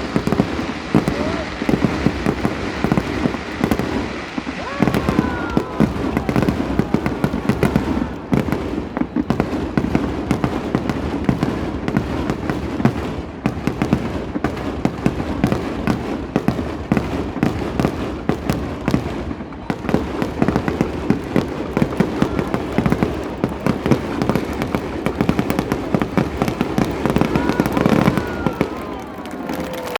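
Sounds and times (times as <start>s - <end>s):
rapid firework bangs and crackles: 0.0s - 29.9s.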